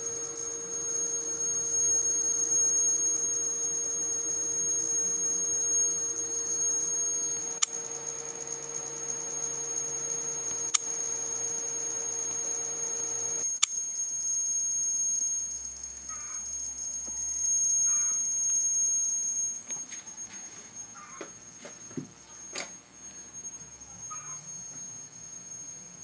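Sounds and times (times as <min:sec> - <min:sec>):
electrical hum with high whine: 0:00.0 - 0:26.0.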